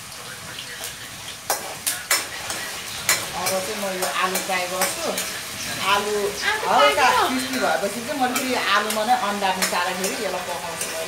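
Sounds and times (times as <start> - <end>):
food sizzling: 0.0 - 11.0
spatula scraping in a wok: 1.4 - 11.0.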